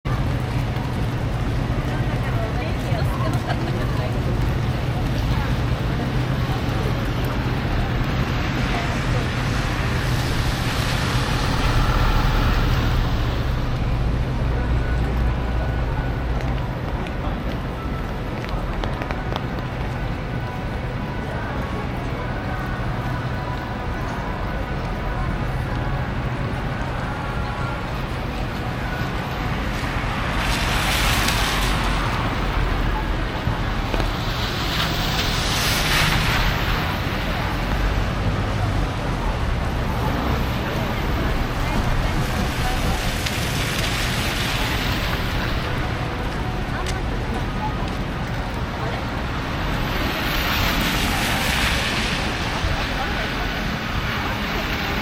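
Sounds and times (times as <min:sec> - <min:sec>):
city street traffic: 0:00.0 - 0:55.0
road noise: 0:00.0 - 0:55.0
vehicles passing with a hiss: 0:00.1 - 0:55.0.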